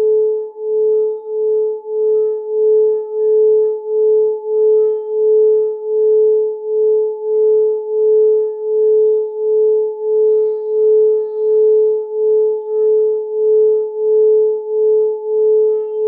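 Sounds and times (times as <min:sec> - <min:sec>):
singing bowl tone: 0:00.0 - 0:16.0.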